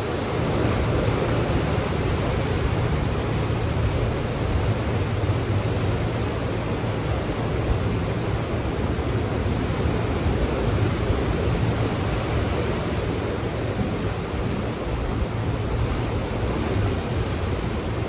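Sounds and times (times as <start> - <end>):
ocean waves washing on beach: 0.0 - 18.0.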